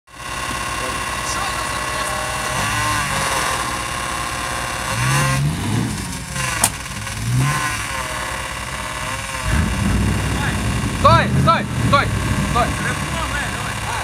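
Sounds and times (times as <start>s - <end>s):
engines revving under load: 0.1s - 14.0s.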